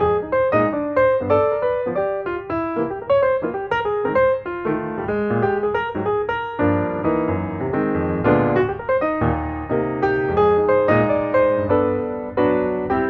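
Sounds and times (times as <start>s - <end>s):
lively piano music: 0.0s - 13.0s.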